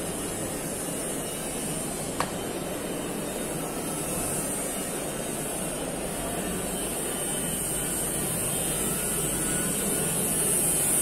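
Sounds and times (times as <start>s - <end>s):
exhibition hall din: 0.0s - 11.0s.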